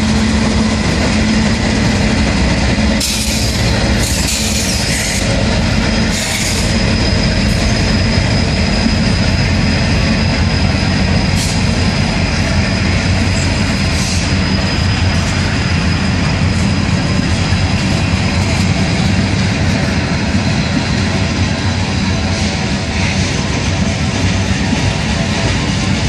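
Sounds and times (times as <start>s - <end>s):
diesel locomotive passing: 0.0s - 26.0s
train wheels rumbling over rails: 0.0s - 26.0s.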